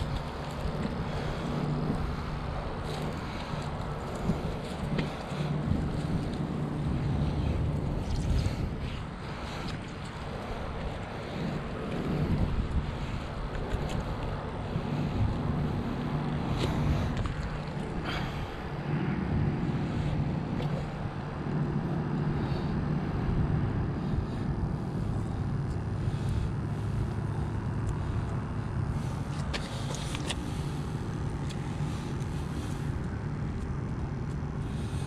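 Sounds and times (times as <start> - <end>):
low mechanical drone: 0.0 - 35.0.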